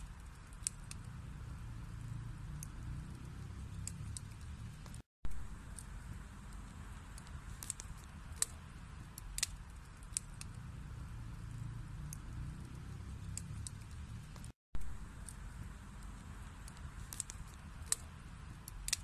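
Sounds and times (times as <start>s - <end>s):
fire flames rumbling: 0.0s - 19.0s
wood crackling and popping: 0.0s - 19.0s.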